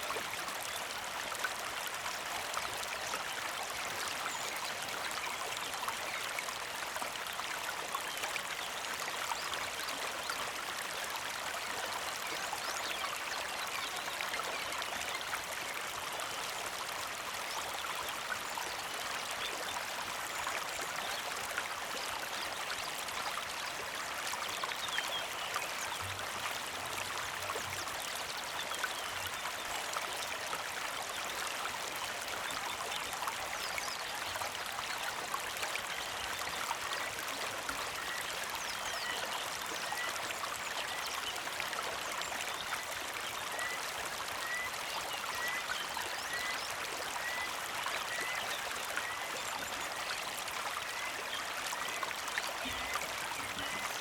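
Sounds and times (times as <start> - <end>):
creek trickling over rocks: 0.0 - 54.0.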